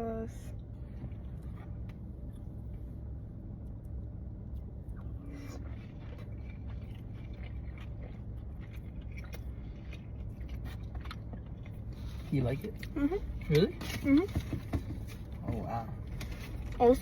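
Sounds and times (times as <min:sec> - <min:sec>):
steady low rumble: 0:00.0 - 0:17.0
person chewing food: 0:00.6 - 0:16.8.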